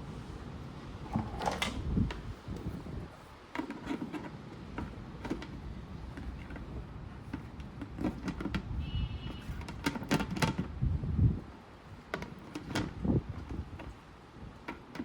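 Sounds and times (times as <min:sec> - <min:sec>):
knocks and clicks of objects handled: 0:01.0 - 0:02.8, 0:03.4 - 0:10.8, 0:12.0 - 0:15.0.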